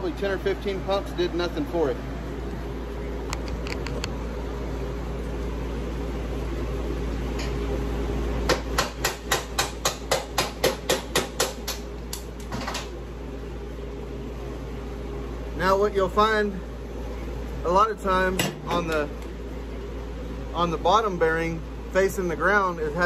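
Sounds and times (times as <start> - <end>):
workshop hum: 0.0 - 23.0.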